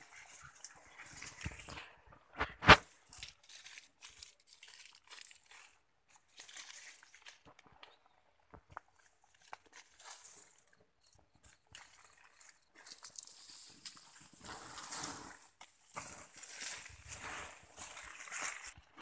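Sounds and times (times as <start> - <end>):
rustling and crunching of berries: 0.0 - 8.0, 8.6 - 19.0.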